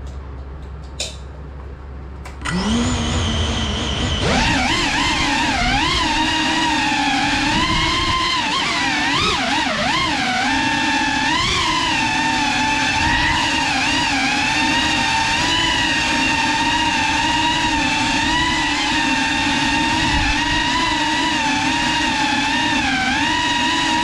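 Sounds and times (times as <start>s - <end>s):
drone propellers whining: 2.4s - 24.0s.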